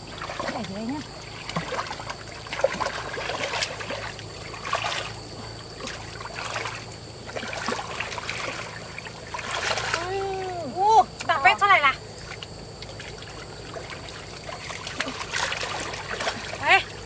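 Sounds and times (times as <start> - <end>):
steady low hum: 0.0 - 17.0
water splashing: 0.0 - 17.0.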